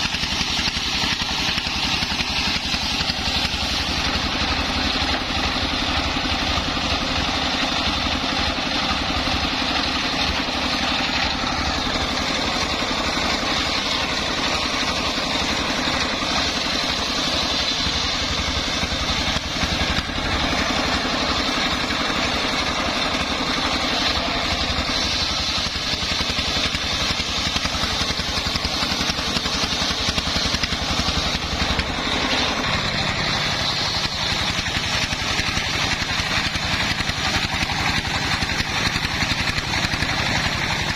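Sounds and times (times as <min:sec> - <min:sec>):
saw engine running: 0:00.0 - 0:40.9.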